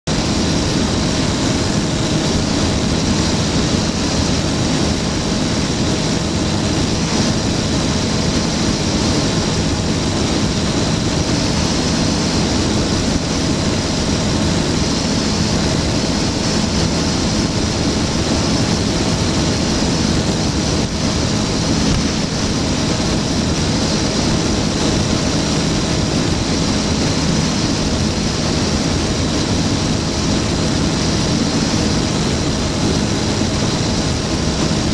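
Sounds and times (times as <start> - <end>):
light aircraft engine droning: 0.0 - 34.9.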